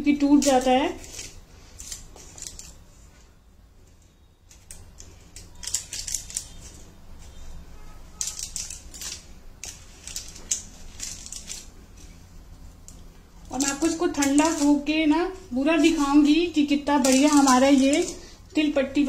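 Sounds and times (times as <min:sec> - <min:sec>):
knife scraping crackling brittle: 0:00.2 - 0:02.8, 0:04.5 - 0:18.4.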